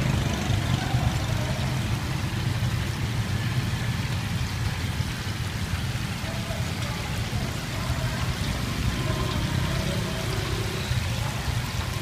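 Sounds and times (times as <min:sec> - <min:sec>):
oil bubbling and sizzling: 0:00.0 - 0:12.0.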